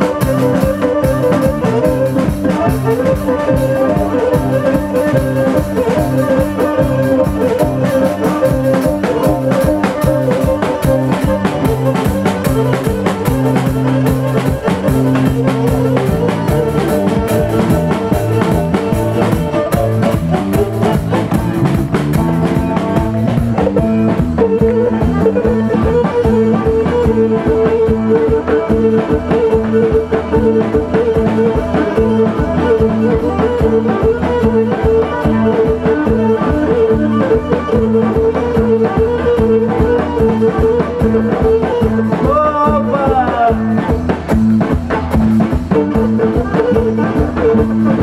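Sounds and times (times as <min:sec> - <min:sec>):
drum kit beat: 0:00.0 - 0:48.0
high melody line: 0:00.0 - 0:48.0
plucked strings: 0:00.0 - 0:48.0.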